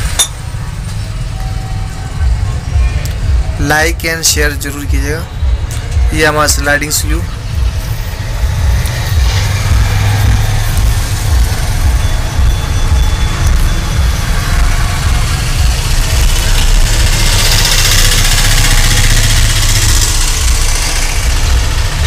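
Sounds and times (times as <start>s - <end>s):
large engine idling: 0.0s - 22.0s.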